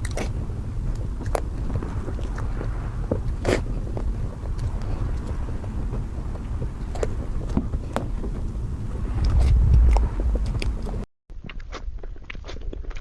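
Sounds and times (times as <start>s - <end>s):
steady low rumble: 0.0s - 11.1s
person biting and chewing cake: 0.0s - 13.0s.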